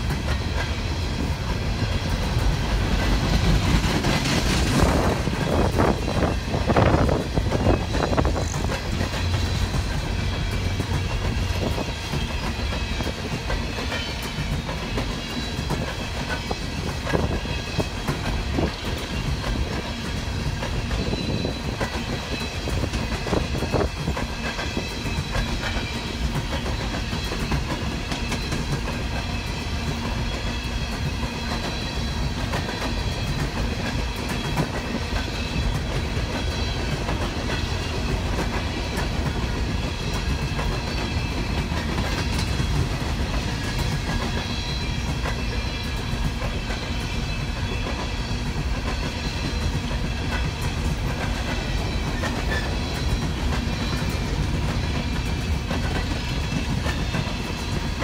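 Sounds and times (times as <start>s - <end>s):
freight train wheels rumbling: 0.0s - 58.0s
wheels clicking over rail joints: 0.0s - 58.0s.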